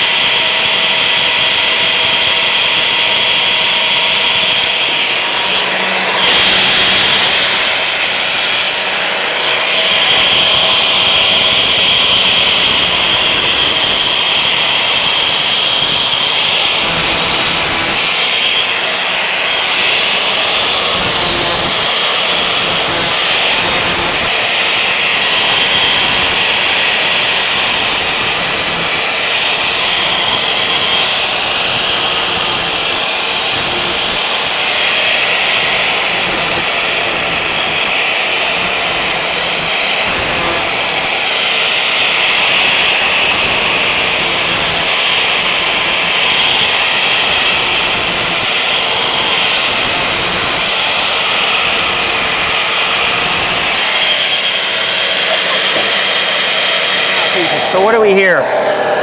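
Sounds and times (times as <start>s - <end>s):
angle grinder grinding steel: 0.0s - 59.0s.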